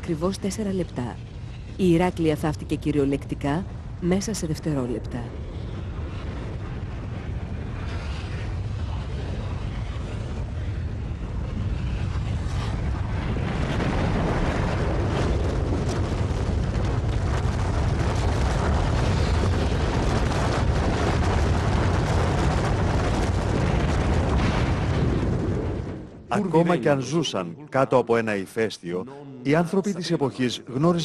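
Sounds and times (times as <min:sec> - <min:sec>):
dense low rumble: 0:00.0 - 0:27.8.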